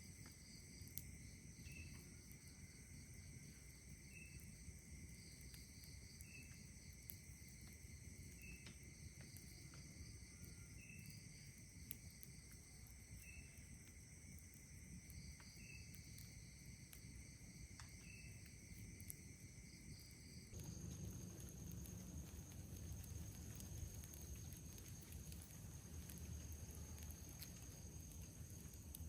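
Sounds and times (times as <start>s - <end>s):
campfire crackling: 0.0s - 29.0s
insect chirp: 0.0s - 29.0s
insect trills: 0.0s - 29.0s.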